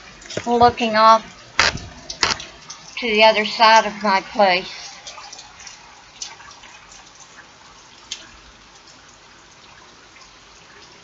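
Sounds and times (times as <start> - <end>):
close water drips: 0.0 - 11.0
steady rain falling: 0.0 - 11.0.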